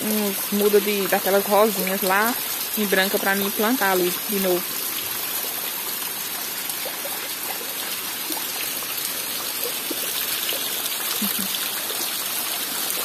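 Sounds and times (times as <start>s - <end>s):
drips and splashes: 0.0s - 13.0s
rainwater running and trickling: 0.0s - 13.0s
steady rain: 0.0s - 13.0s.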